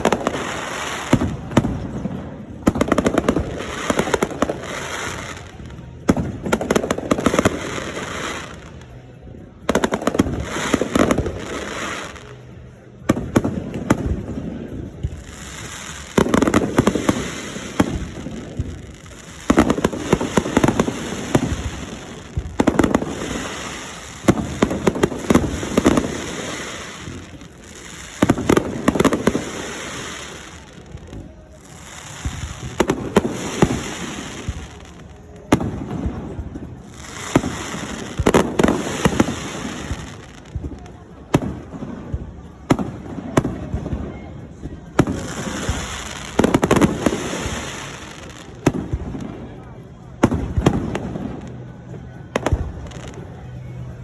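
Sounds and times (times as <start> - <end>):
fireworks crackle: 0.0 - 54.0.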